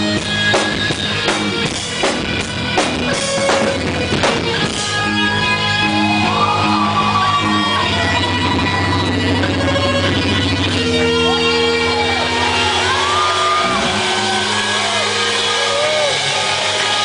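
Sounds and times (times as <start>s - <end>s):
guitar chords: 0.0s - 17.0s
live rock band: 0.0s - 17.0s.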